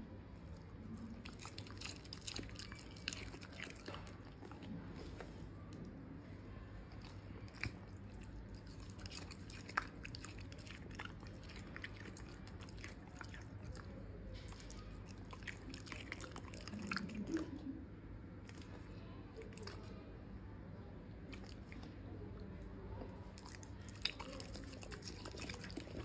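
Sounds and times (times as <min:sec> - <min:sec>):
puppy chewing food: 0:00.3 - 0:20.1, 0:21.1 - 0:26.0.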